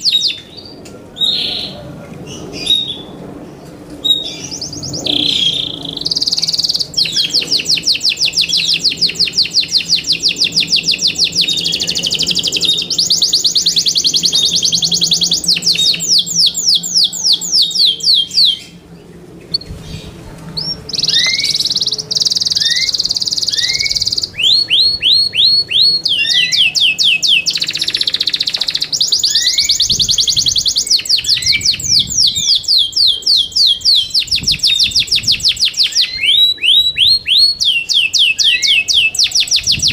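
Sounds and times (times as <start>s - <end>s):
canary trilling song: 0.0s - 3.2s, 4.0s - 20.0s, 20.6s - 39.9s.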